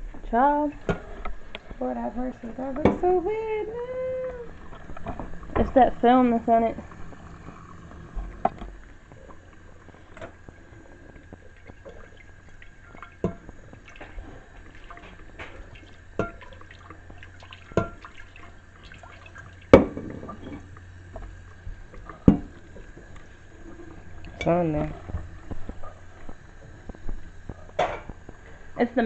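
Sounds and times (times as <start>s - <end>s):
tap water running and dripping: 0.0s - 29.0s.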